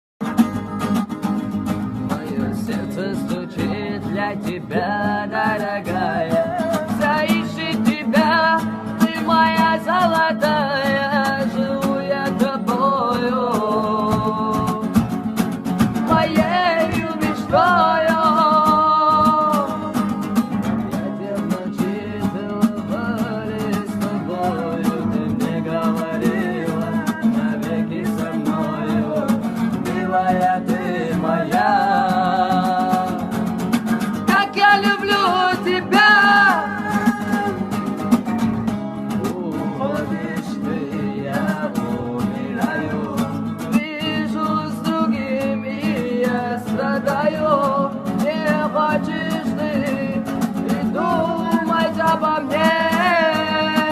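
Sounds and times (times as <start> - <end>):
plucked guitar: 0.2 - 53.9
person singing: 2.1 - 15.1, 15.9 - 33.4, 34.1 - 38.1, 39.1 - 53.9.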